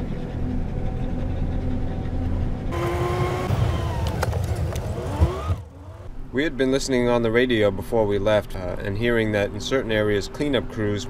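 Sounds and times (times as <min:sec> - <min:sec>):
engine and tyre drone: 0:00.0 - 0:11.0
road and wind noise: 0:00.0 - 0:11.0.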